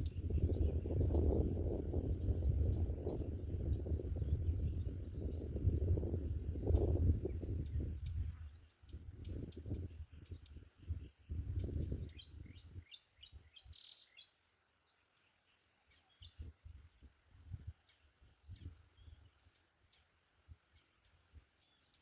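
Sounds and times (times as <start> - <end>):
bird chirping: 0.0 - 16.5, 17.7 - 22.0.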